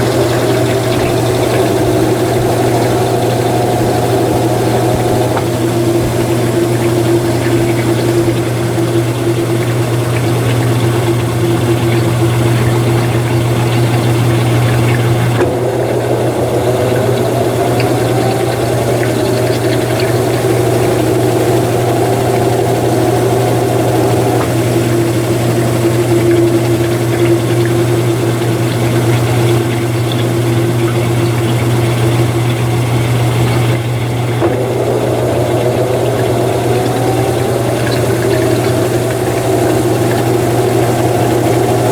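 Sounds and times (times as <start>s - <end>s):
motor whine: 0.0s - 41.9s
washing machine hum: 0.0s - 41.9s.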